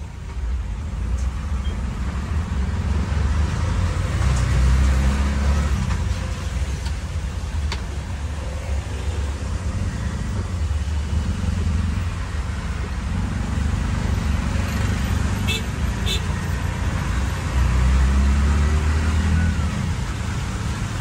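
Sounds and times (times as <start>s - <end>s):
wet road noise: 0.0s - 21.0s.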